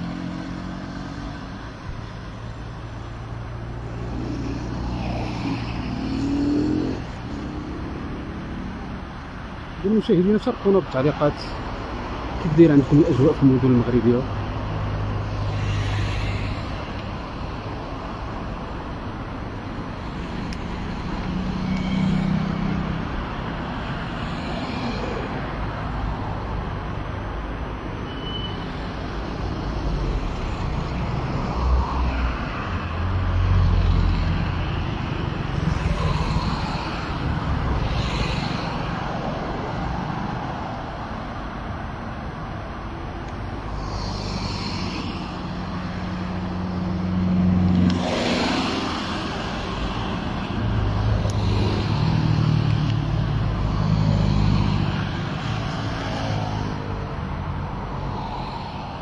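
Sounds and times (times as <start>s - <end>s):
road noise hum: 0.0s - 59.0s
vehicles passing: 0.0s - 59.0s.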